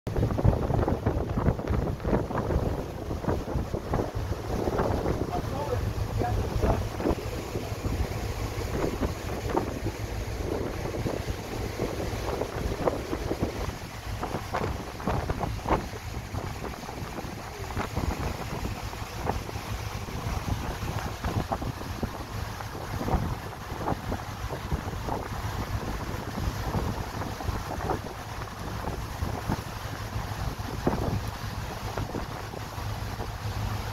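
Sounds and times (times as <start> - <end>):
low rumble: 0.1 - 33.9
water rushing past hull: 0.1 - 33.9
wind buffeting microphone: 0.1 - 33.9.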